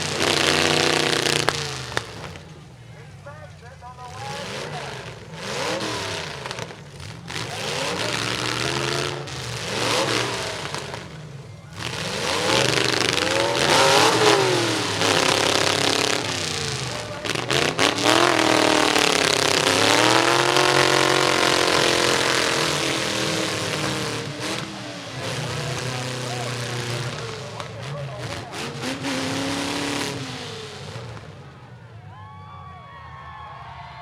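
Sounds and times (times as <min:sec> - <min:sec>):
truck engines revving hard: 0:00.0 - 0:34.0.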